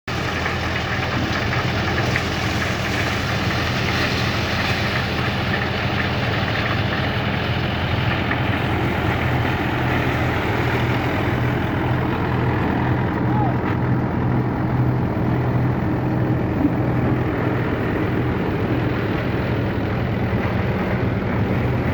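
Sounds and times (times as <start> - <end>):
tractor engine running: 0.0 - 21.9
maize-shelling machine noise: 0.1 - 21.9.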